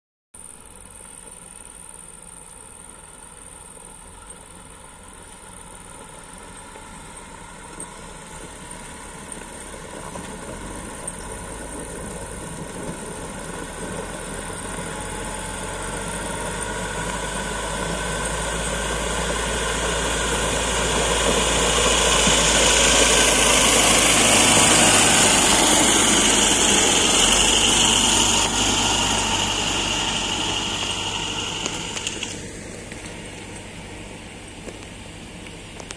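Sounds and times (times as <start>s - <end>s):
tractor engine running: 0.4s - 35.9s.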